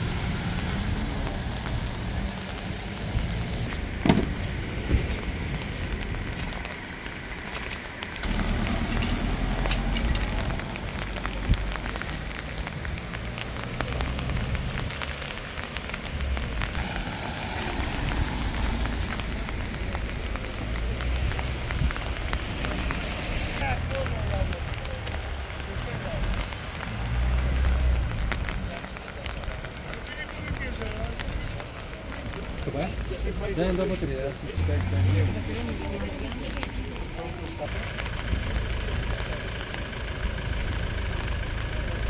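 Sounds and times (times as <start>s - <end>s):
rain falling on wet street: 0.0s - 42.0s
vehicle engines rumbling: 0.0s - 42.0s.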